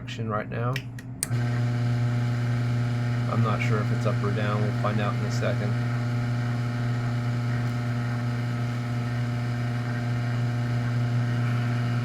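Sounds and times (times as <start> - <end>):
garage door opener motor humming: 1.2 - 12.0.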